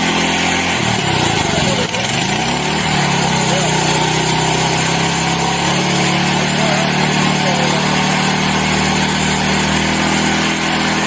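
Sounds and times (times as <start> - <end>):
earth auger engine running: 0.0 - 11.0.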